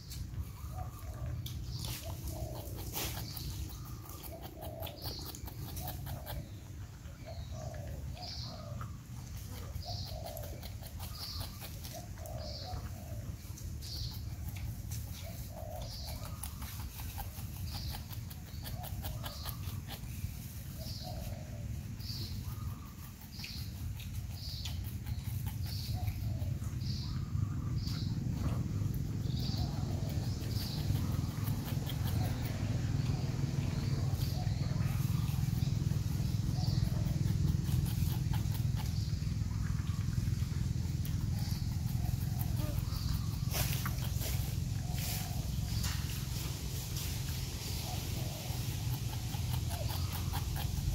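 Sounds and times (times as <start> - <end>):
bird chirping: 0.0 - 50.9
porcupine chewing fruit: 0.0 - 50.9.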